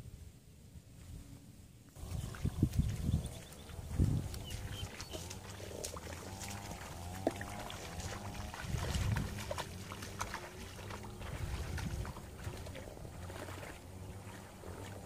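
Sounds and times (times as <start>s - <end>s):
wind rumbling on microphone: 0.0s - 15.0s
barefoot steps in long grass: 2.0s - 15.0s.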